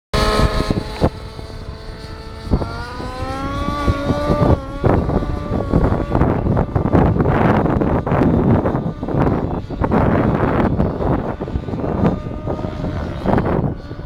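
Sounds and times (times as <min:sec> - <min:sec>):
model aircraft motor whining: 0:00.2 - 0:14.0
wind buffeting microphone: 0:00.2 - 0:14.0.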